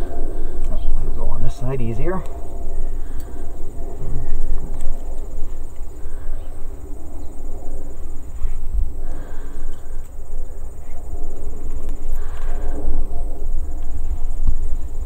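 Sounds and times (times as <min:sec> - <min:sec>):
insect chirping: 0:00.0 - 0:15.0
wind rumble on microphone: 0:00.0 - 0:15.0.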